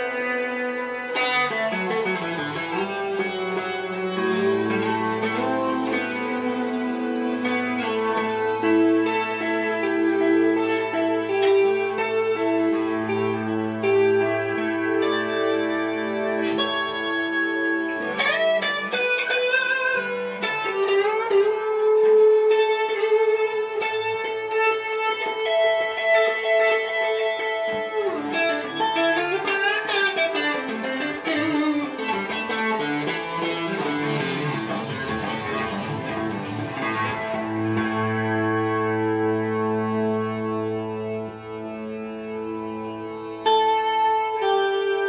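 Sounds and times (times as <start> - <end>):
electric guitar improvisation: 0.0 - 45.0.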